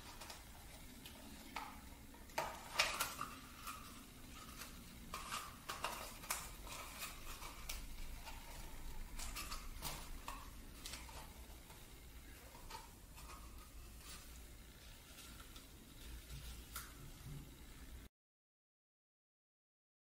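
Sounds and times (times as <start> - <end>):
tape crinkling: 0.0 - 17.4.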